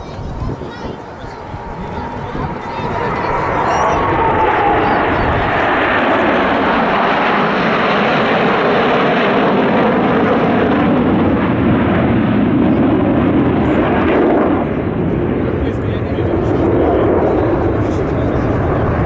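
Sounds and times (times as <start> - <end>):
fighter jets flying over: 0.0 - 19.0.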